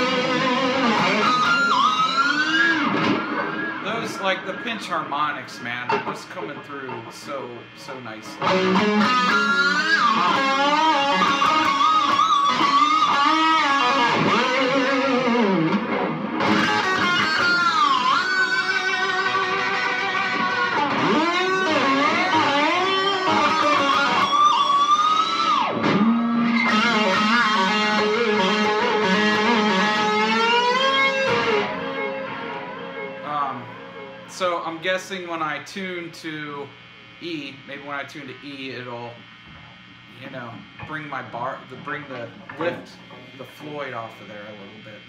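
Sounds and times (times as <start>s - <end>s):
distorted electric guitar lead: 0.0s - 45.0s.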